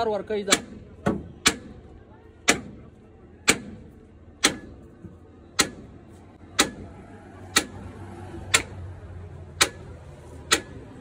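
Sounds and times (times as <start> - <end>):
hammer striking metal: 0.4 - 8.8, 9.5 - 11.0.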